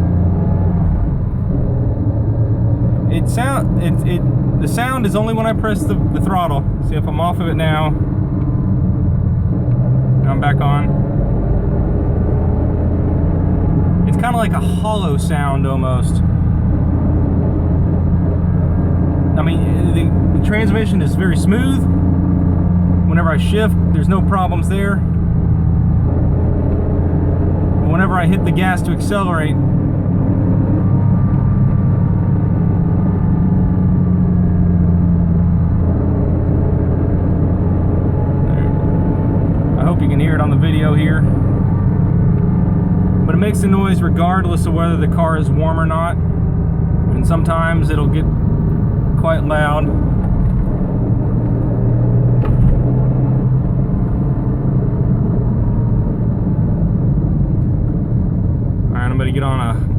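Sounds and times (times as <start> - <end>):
car engine accelerating: 0.0 - 59.9
low hollow transmission drone: 0.0 - 59.9.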